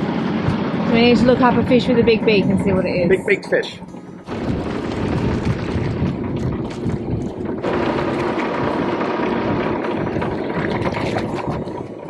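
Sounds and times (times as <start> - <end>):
churning wake water: 0.0 - 12.0
wind rushing: 0.0 - 12.0.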